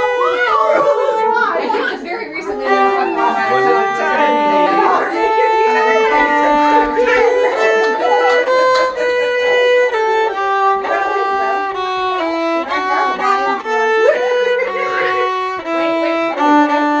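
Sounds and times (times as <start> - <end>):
solo violin melody: 0.0 - 17.0.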